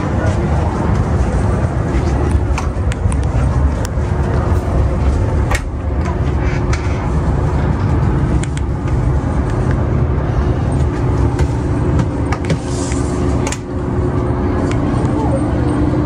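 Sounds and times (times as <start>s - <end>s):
low rumble and hum in train car: 0.0s - 16.0s.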